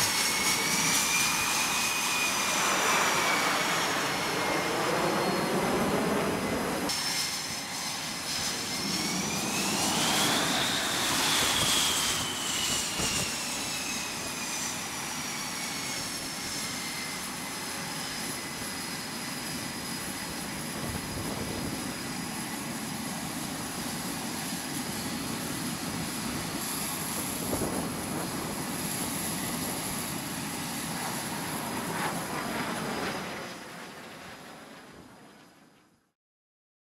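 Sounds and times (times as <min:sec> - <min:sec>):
jet engines whining: 0:00.0 - 0:35.8.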